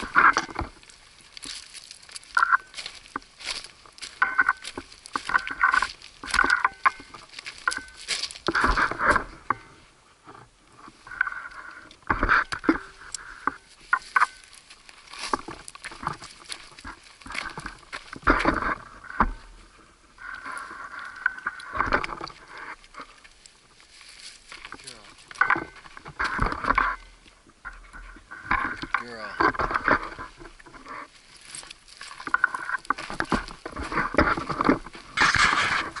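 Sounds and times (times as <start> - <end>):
footsteps crunching on gravel: 0.0 - 9.9, 10.8 - 36.0
rustling of packs and gear: 0.0 - 36.0.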